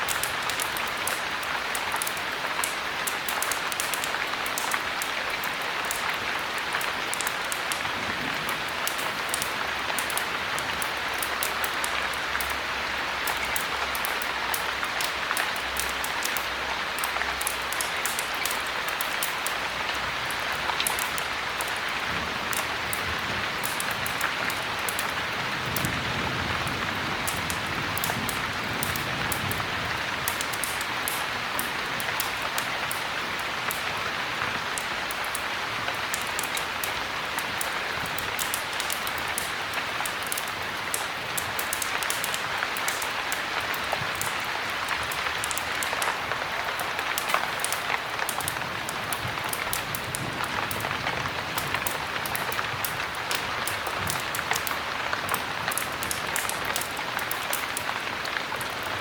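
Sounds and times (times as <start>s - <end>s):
sharp ticks of raindrops: 0.0s - 59.0s.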